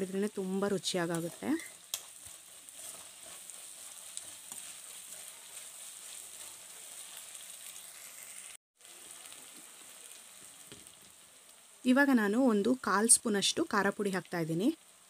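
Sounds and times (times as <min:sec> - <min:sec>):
faint crackles of frying: 0:00.0 - 0:15.0
onions sizzling in hot oil: 0:00.0 - 0:15.0.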